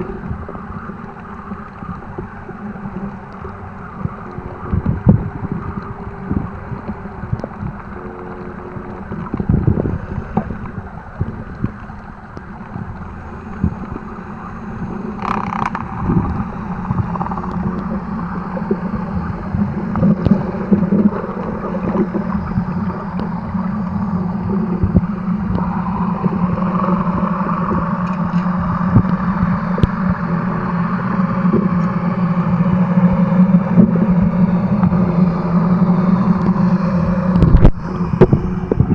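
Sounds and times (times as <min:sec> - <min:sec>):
low steady drone: 0:00.0 - 0:38.9
muffled underwater noise: 0:00.0 - 0:38.9.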